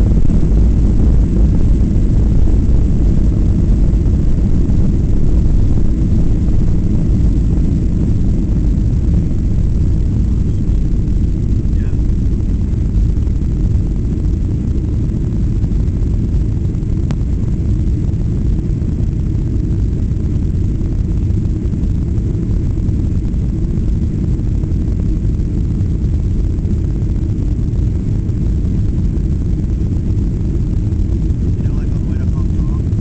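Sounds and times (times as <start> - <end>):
jet engine rumble in cabin: 0.0 - 33.0.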